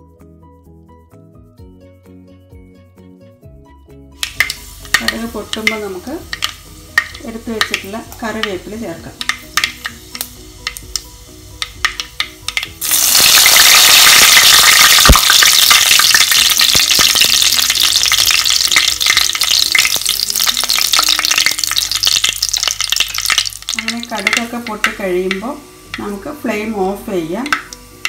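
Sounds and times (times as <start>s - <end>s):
food sizzling in oil: 4.2s - 28.0s
seeds popping in hot oil: 4.2s - 28.0s.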